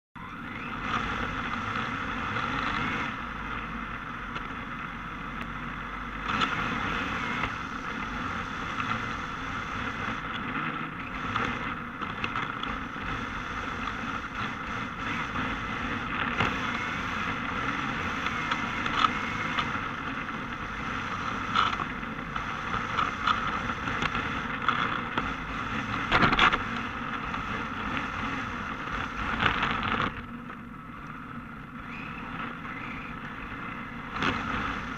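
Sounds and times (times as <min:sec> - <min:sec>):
electric motor and drivetrain hum: 0:00.2 - 0:34.9
tyre noise on asphalt: 0:00.3 - 0:34.9.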